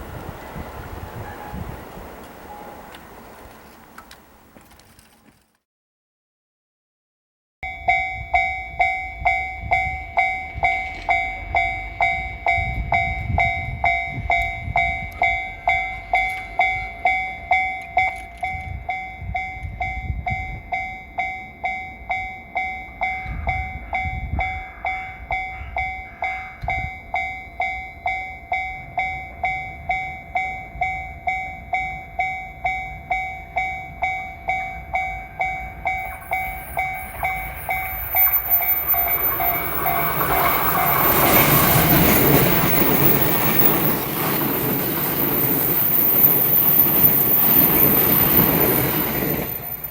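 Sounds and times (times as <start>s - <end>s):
level-crossing warning bell: 1.2s - 1.7s, 2.4s - 3.2s, 7.6s - 49.9s.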